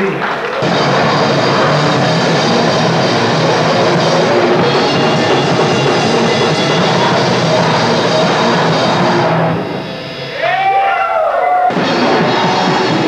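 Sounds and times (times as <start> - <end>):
pounding drum kit: 0.0 - 10.8, 11.6 - 13.0
grindcore band playing live: 0.0 - 13.0.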